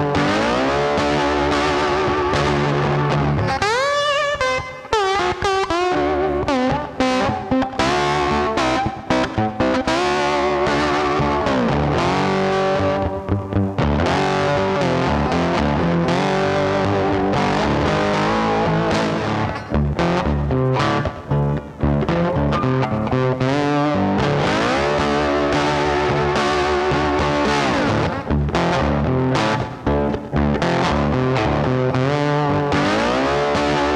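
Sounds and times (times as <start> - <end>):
backing music: 0.0 - 33.9
distorted electric guitar lead: 0.0 - 33.9.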